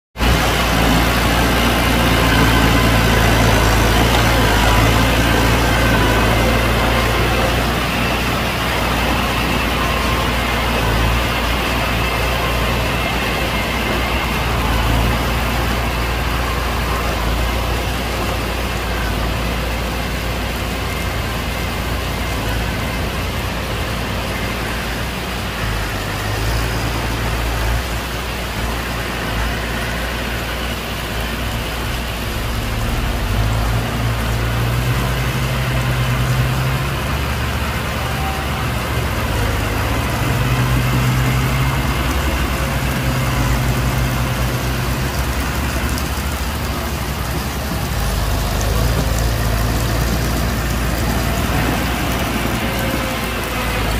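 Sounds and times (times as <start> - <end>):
heavy diesel engine revving: 0.2 - 53.9.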